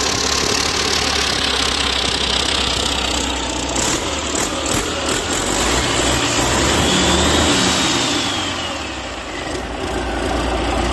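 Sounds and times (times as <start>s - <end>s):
diesel engine running: 0.0s - 10.9s.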